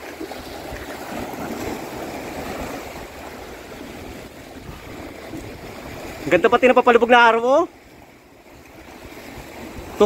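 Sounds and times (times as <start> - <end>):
waves splashing against rocks: 0.0 - 10.0.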